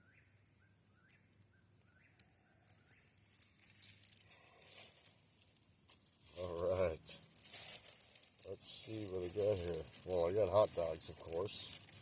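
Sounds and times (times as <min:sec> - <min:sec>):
faint crinkling and rustling: 0:01.9 - 0:12.0.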